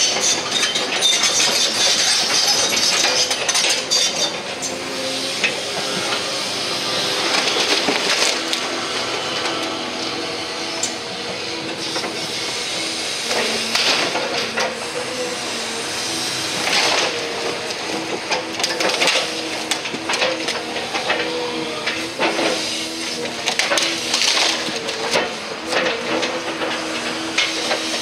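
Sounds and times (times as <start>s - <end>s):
excavator running: 0.0s - 28.0s.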